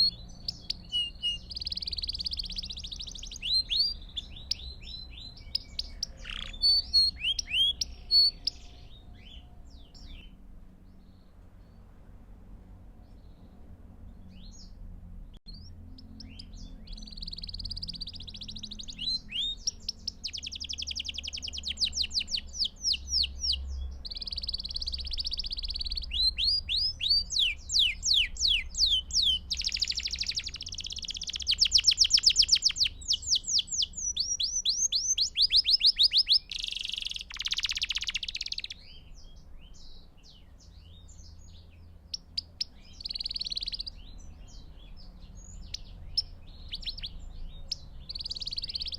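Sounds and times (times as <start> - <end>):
canary singing trills: 0.0 - 11.9, 13.0 - 48.9.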